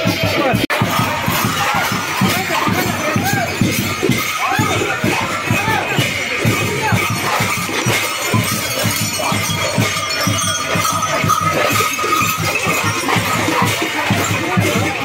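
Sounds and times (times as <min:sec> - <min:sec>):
cymbals clashing: 0:00.0 - 0:15.0
drums: 0:00.0 - 0:15.0.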